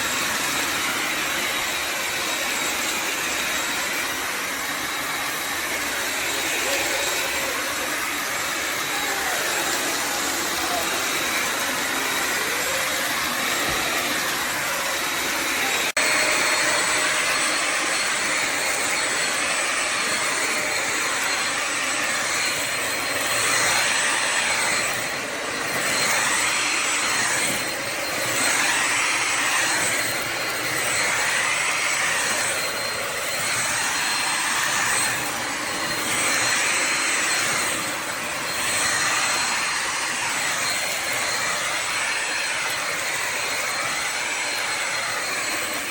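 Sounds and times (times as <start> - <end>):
vacuum motor whining rush: 0.0 - 45.9.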